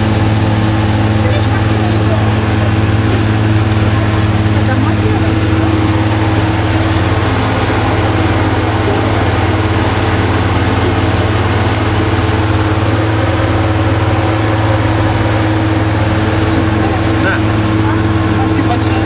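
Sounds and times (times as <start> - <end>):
boat engine droning: 0.0 - 19.0
rushing water: 0.0 - 19.0.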